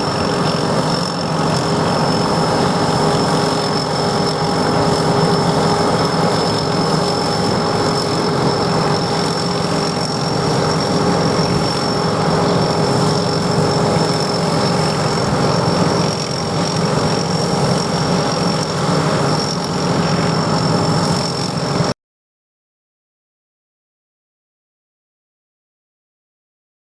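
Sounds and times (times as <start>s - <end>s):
harvester engine drone: 0.0s - 21.9s
high machinery whine: 0.0s - 22.0s.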